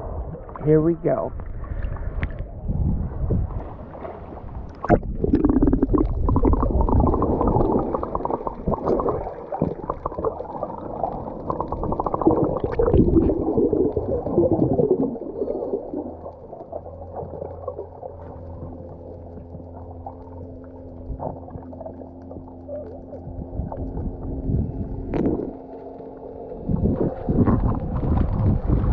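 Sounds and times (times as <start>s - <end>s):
muffled underwater rushing and bubbling: 0.0s - 28.9s
steady low hum: 0.0s - 28.9s.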